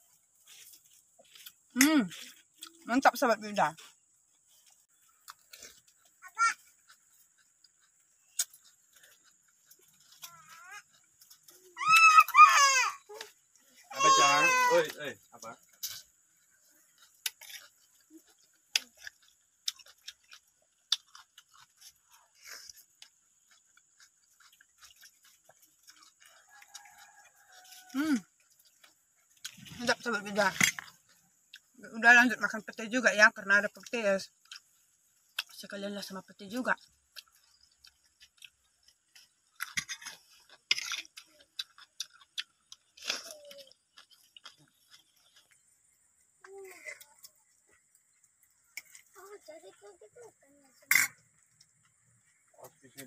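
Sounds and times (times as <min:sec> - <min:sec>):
wet chewing of noodles: 0:00.0 - 0:03.0, 0:03.7 - 0:14.0, 0:15.0 - 0:32.5, 0:33.6 - 0:53.0.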